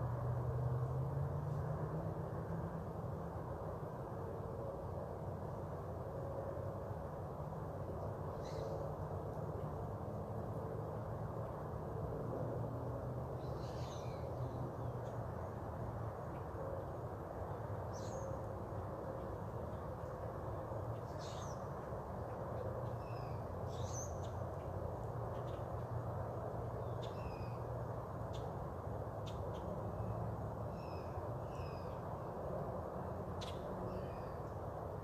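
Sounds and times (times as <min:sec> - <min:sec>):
steady low background noise: 0:00.0 - 0:35.0.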